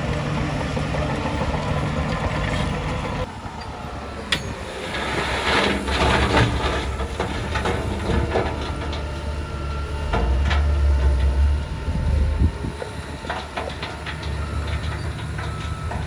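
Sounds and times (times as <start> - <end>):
bulldozer diesel engine: 0.0 - 16.0
metal clanking of tracks: 0.0 - 16.0.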